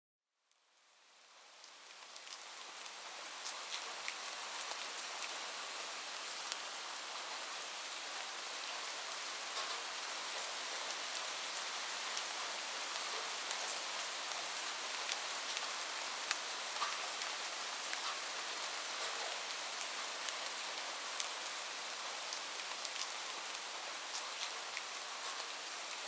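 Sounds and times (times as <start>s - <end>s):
rain falling on a roof: 0.5s - 26.0s.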